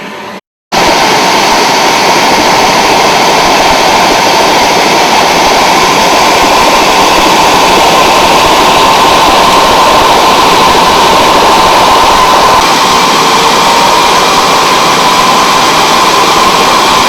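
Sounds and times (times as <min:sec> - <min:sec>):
helicopter running: 0:00.8 - 0:17.0.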